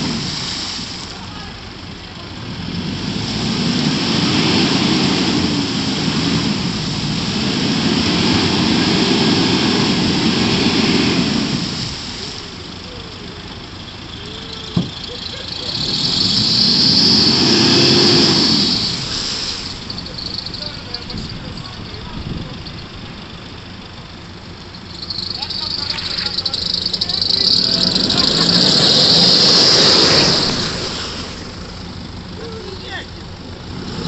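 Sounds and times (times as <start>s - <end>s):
engine revving: 0.0s - 34.0s
spinning tyres hissing in mud: 0.0s - 34.0s.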